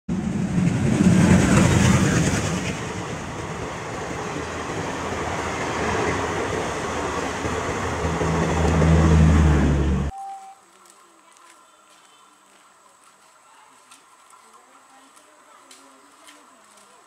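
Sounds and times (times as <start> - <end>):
train wheel and rail noise: 0.1 - 10.1, 11.3 - 17.0.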